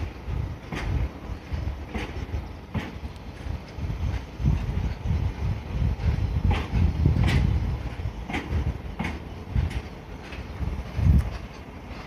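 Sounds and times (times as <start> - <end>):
metallic clanks between wagons: 0.0 - 12.0
wind on microphone: 0.0 - 12.0.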